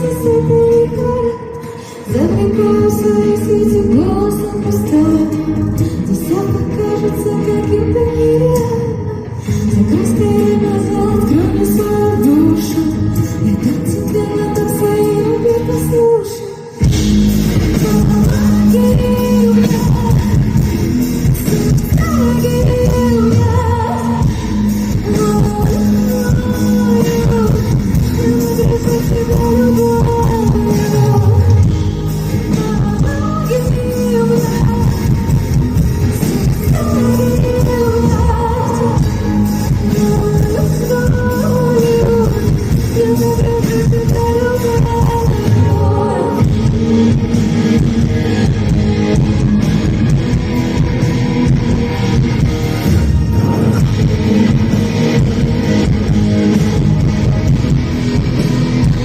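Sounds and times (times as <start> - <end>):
full band playing pop-rock: 0.0 - 59.0
strummed electric guitar: 0.0 - 59.0
bass guitar: 2.1 - 16.2, 16.8 - 59.0.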